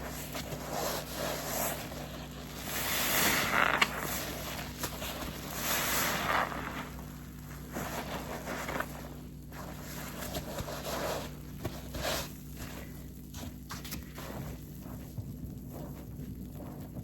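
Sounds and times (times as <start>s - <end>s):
wet sponge squelching: 0.0s - 17.0s.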